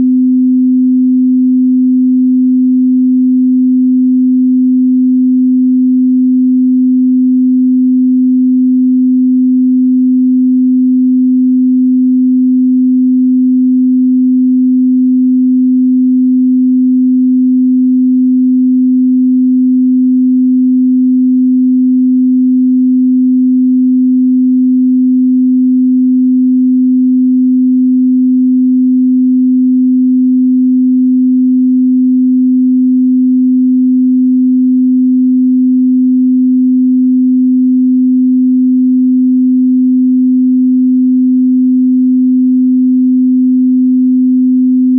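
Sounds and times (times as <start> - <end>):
sine-wave test tone: 0.0 - 44.9.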